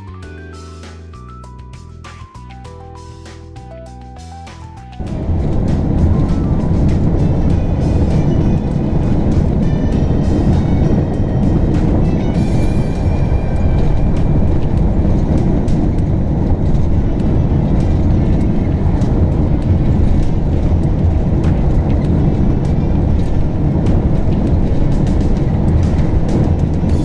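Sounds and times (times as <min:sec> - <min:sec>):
engine and tyre rumble: 0:01.8 - 0:27.0.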